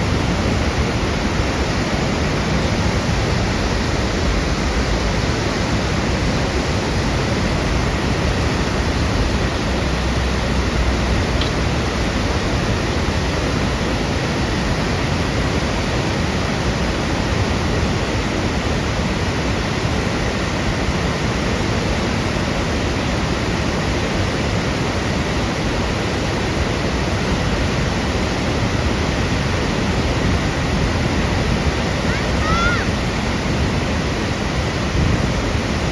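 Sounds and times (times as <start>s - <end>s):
water rushing down from a dam: 0.0s - 35.9s.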